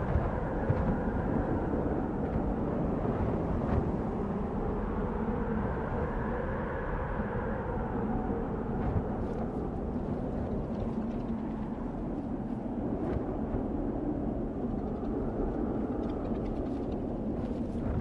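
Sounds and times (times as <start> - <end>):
wind blowing steadily: 0.0 - 18.0.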